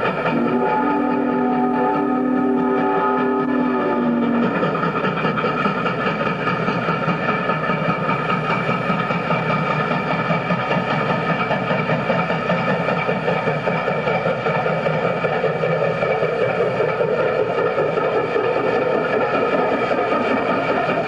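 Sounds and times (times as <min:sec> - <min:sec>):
steam locomotive running: 0:00.0 - 0:21.0.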